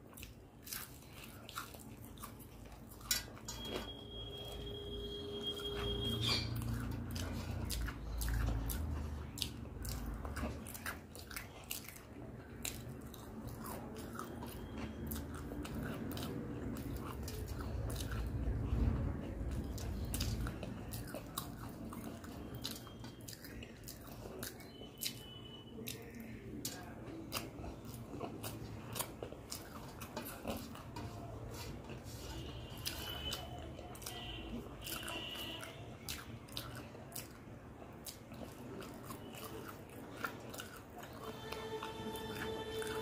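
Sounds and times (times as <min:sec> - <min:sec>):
chewing crunchy fried food: 0:00.0 - 0:43.0.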